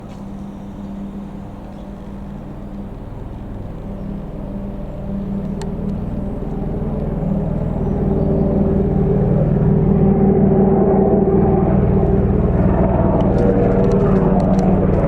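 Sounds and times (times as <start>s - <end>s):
helicopter rotors droning: 0.0s - 15.0s.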